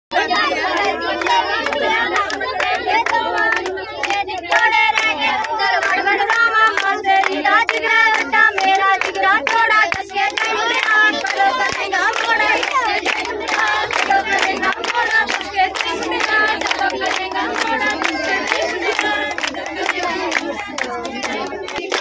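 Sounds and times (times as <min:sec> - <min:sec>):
women and girls singing: 0:00.1 - 0:22.0
rhythmic hand clapping: 0:00.2 - 0:22.0.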